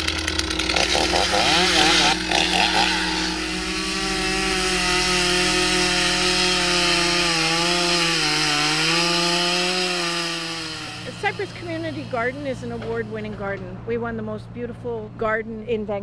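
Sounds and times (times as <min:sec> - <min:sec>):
chainsaw cutting wood: 0:00.0 - 0:13.6.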